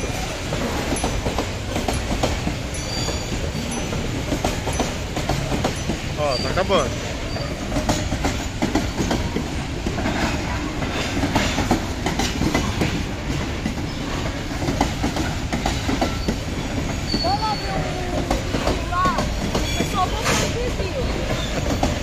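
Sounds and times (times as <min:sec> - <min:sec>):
freight train wheels rumbling on rails: 0:00.0 - 0:22.0
train cars clacking and knocking: 0:00.0 - 0:22.0.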